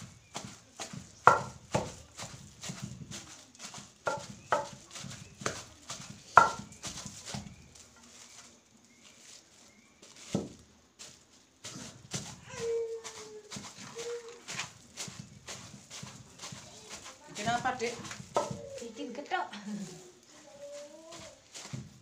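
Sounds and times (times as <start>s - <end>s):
pestle pounding in a bucket: 0.0s - 8.0s, 10.1s - 19.2s, 20.7s - 22.0s.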